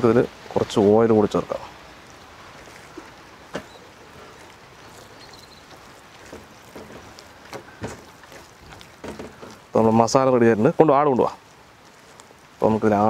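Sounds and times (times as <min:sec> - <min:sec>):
outdoor background noise: 0:00.0 - 0:13.0
hand mixing paste on platter: 0:01.2 - 0:13.0.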